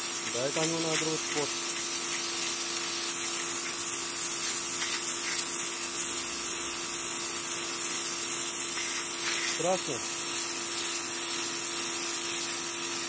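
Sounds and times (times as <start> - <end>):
pressure washer motor hum: 0.0 - 13.0
water jet spraying on tiles: 0.0 - 13.0.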